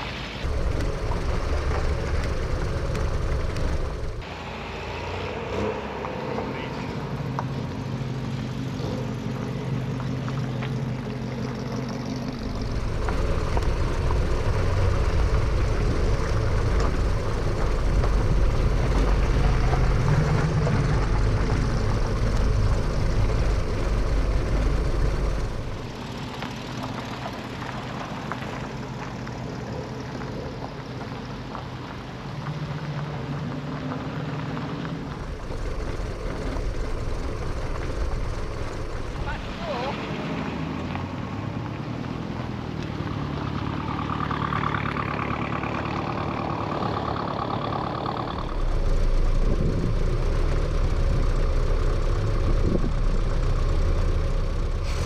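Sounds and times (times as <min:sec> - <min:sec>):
car engines driving past: 0:00.0 - 0:55.0.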